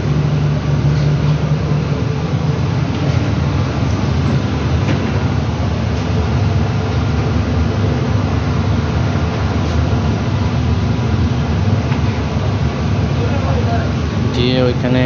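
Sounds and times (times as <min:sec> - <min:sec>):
low rumble of kitchen machinery: 0:00.0 - 0:15.0.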